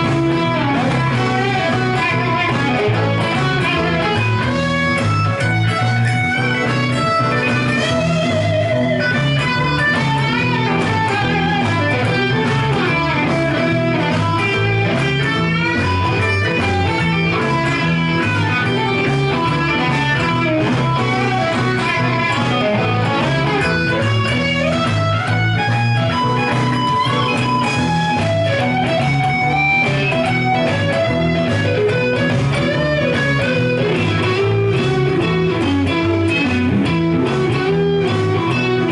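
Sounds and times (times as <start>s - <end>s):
electric guitar blues lead: 0.0s - 38.9s.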